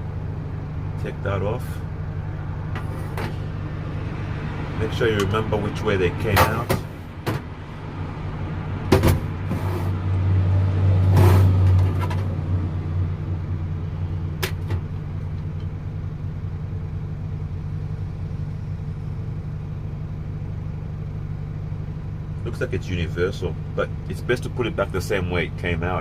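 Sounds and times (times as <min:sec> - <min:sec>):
motor vehicle humming: 0:00.0 - 0:26.0.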